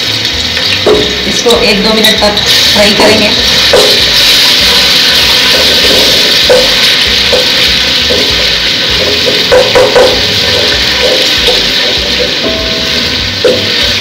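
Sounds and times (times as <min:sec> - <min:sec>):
paste sizzling in hot oil: 0:00.0 - 0:14.0
wooden spoon stirring in pot: 0:02.6 - 0:14.0.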